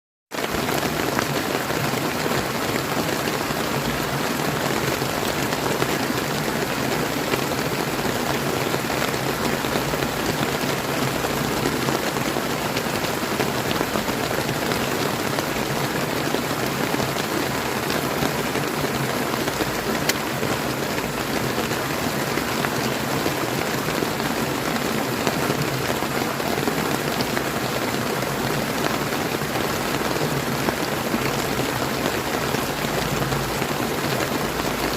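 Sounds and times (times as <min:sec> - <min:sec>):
steady rain: 0:00.3 - 0:34.9.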